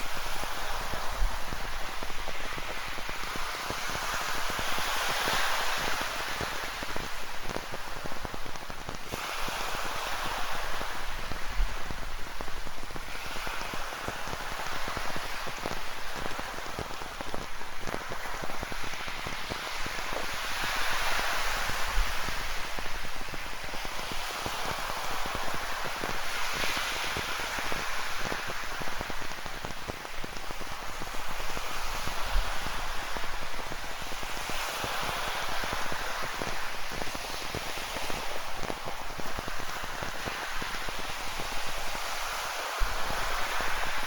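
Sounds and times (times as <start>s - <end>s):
ocean waves rushing in: 0.0s - 44.0s.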